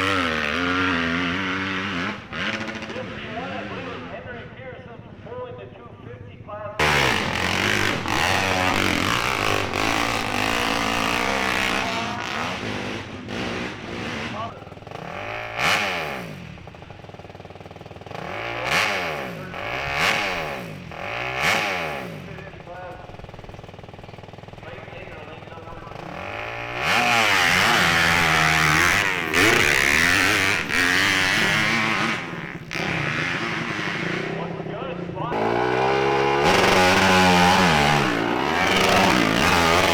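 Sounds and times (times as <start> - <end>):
motorcycle engine revving hard: 0.0 - 4.3, 6.8 - 39.9.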